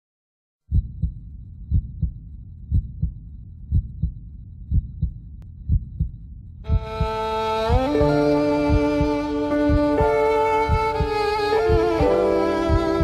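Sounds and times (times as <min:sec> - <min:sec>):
heartbeat double thump: 0:00.7 - 0:13.0.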